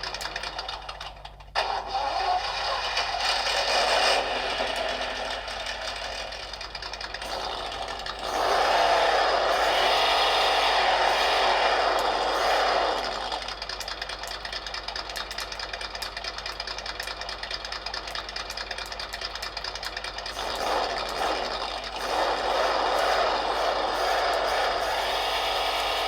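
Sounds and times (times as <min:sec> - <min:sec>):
simulated engine revving and idling: 0:00.0 - 0:26.0.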